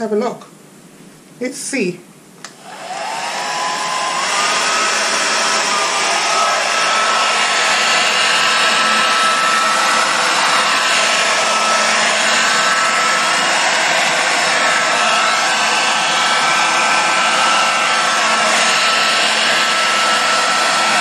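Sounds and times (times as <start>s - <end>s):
hair dryer running: 2.4s - 21.0s.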